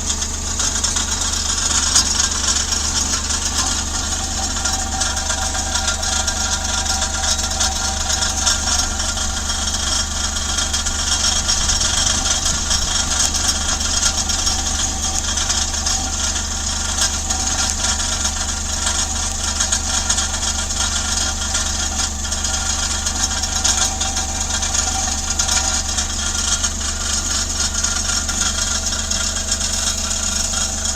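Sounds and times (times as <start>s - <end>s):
car engine running: 0.0s - 30.9s
exhaust muffler rattling: 0.0s - 30.9s.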